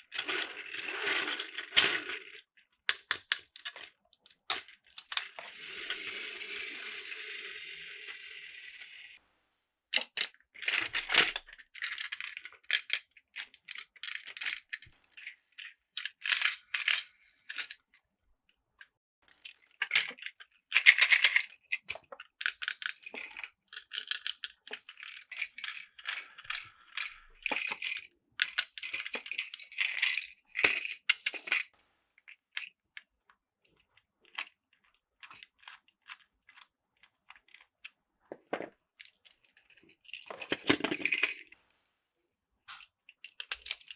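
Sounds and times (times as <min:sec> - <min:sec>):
plastic toy train clattering: 0:00.0 - 0:08.3, 0:10.0 - 0:18.0, 0:19.3 - 0:31.7, 0:32.3 - 0:41.6, 0:42.7 - 0:43.9.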